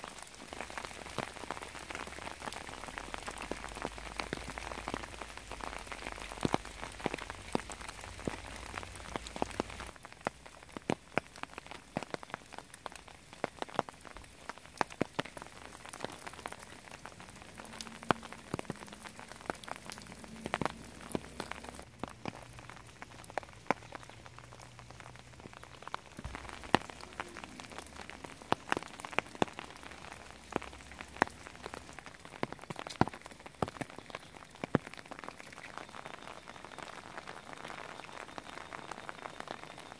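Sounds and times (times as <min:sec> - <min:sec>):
rain hiss: 0:00.0 - 0:39.9
raindrops landing close by: 0:00.0 - 0:39.9.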